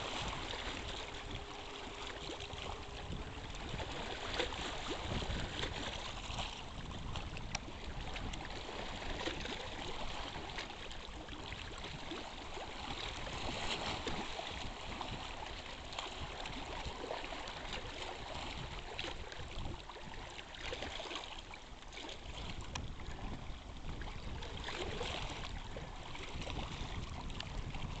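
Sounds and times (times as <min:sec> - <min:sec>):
wind rumbling on microphone: 0:00.0 - 0:21.0, 0:22.2 - 0:28.0
water lapping against rocky shore: 0:00.0 - 0:28.0.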